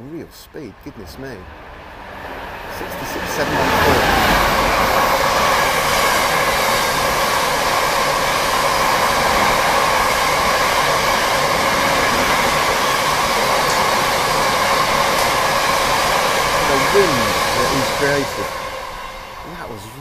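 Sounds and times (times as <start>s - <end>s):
freight train rushing past: 0.0s - 20.0s
wind buffeting microphone: 0.8s - 20.0s.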